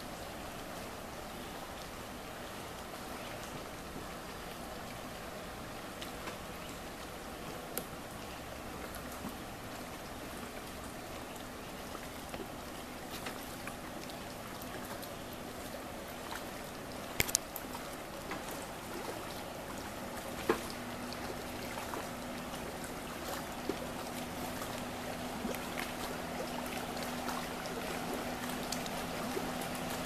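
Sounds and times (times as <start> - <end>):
water lapping: 0.0 - 30.0
distant jet ski engine: 1.0 - 30.0.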